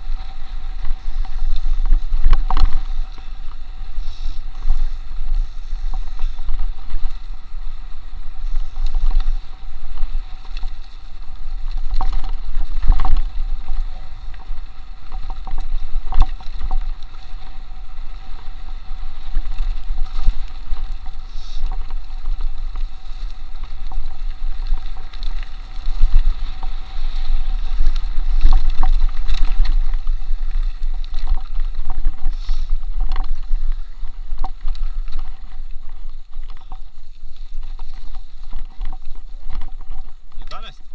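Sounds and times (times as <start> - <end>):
bike rattling and knocking: 0.0 - 3.8, 5.8 - 40.9
wind rumble on microphone: 0.0 - 40.9.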